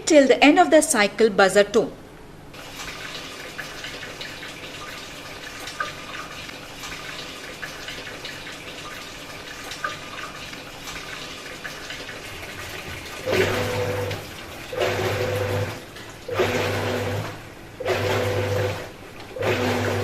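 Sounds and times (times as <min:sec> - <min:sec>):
water filling washing machine: 0:02.5 - 0:20.0
faint water splashes: 0:02.6 - 0:20.0.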